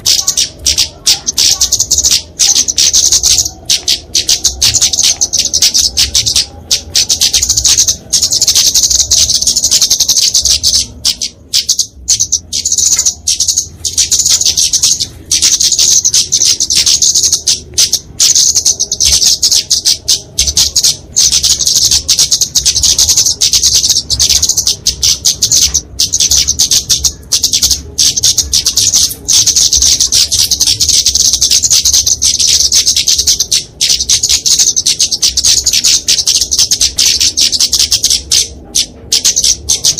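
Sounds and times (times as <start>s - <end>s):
bird chattering high notes: 0.0s - 39.9s.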